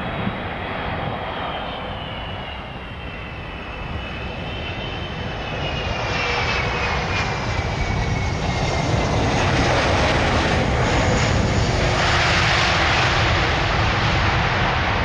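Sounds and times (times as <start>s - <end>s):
jet engines of landing plane: 0.0s - 15.0s.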